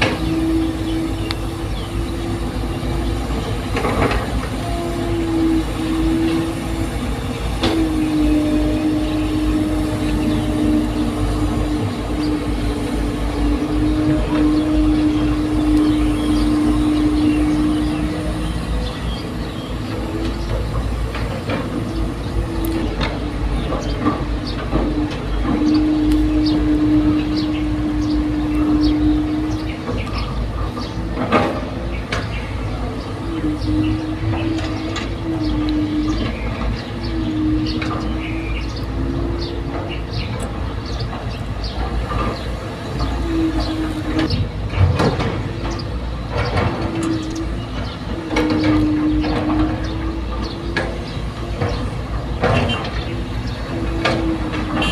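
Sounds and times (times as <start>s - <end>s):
diesel engine running: 0.0s - 54.9s
hydraulic whine: 0.0s - 54.9s
machine squeaks: 0.0s - 54.9s.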